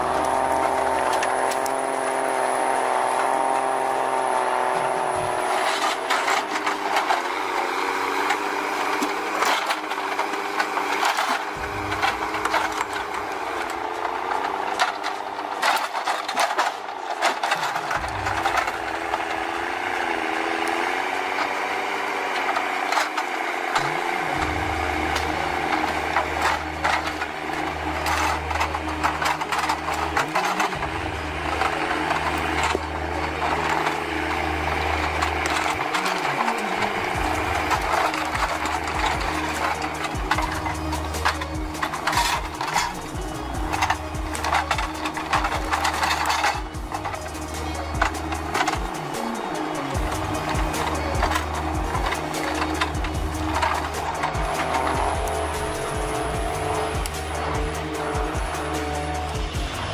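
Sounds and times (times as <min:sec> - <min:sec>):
engine running: 0:00.0 - 0:59.9
metal tracks clanking: 0:00.0 - 0:59.9.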